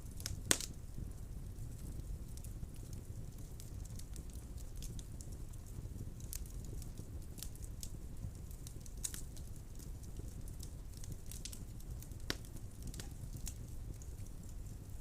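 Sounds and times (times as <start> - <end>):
fire flame rumble: 0.0 - 15.0
wood fire crackling and popping: 0.0 - 15.0.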